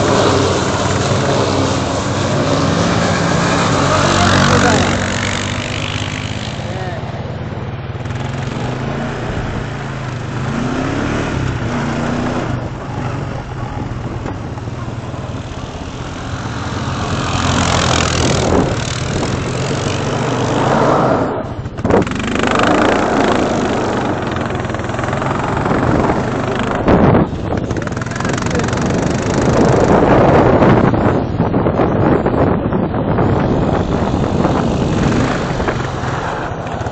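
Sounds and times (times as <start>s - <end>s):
rushing noise: 0.0s - 7.0s, 8.1s - 31.8s
quad engine revving: 0.0s - 31.2s, 32.6s - 36.9s.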